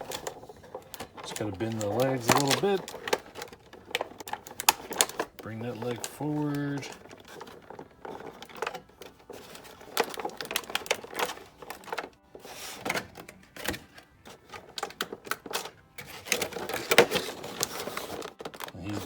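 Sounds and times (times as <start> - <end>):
plastic packaging clicking and crinkling: 0.0 - 19.0.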